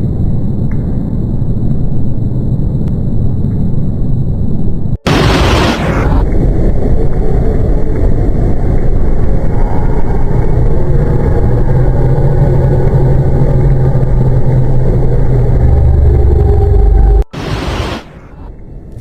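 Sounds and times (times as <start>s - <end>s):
loud low rumble with hum: 0.0s - 19.0s.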